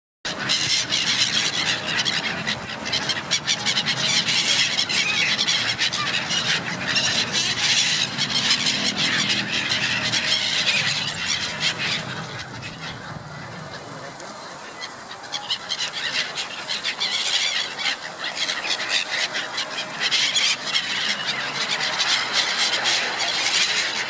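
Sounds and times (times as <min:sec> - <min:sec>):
flock of birds calling: 0:00.3 - 0:24.0.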